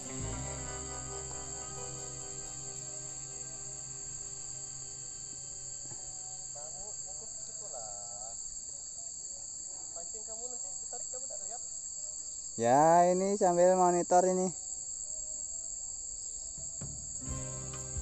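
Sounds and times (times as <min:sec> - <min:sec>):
insects droning shrilly: 0:00.0 - 0:18.0.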